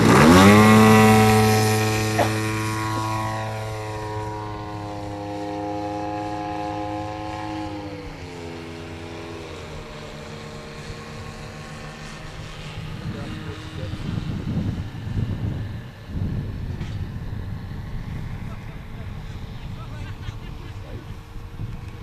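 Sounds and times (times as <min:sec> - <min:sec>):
model plane engine and propeller: 0:00.0 - 0:22.0.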